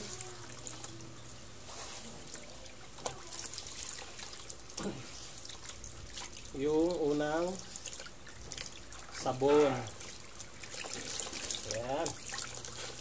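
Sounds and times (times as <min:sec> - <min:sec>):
water trickling from hose: 0:00.0 - 0:13.0
water splashing into plastic tub: 0:02.3 - 0:13.0.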